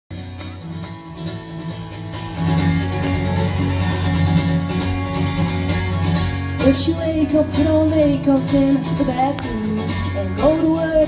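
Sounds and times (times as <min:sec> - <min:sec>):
acoustic guitar: 0:00.1 - 0:11.0
bass guitar: 0:00.1 - 0:11.0
electric guitar: 0:00.1 - 0:11.0.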